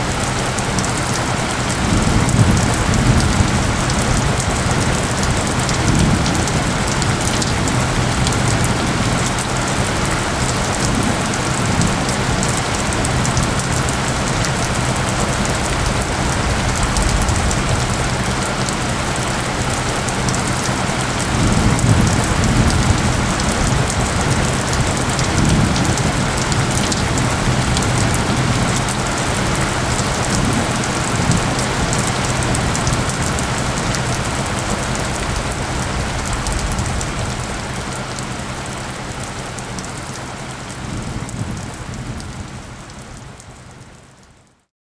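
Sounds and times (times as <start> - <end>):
steady rain falling: 0.0 - 44.6.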